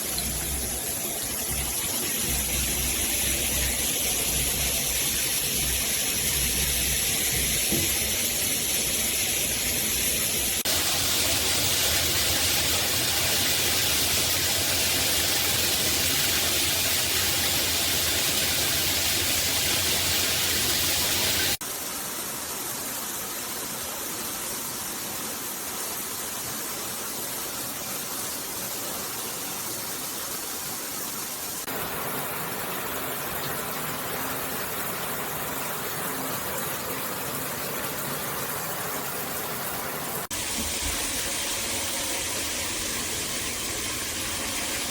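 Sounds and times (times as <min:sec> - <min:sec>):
shower spraying water: 0:00.0 - 0:44.9.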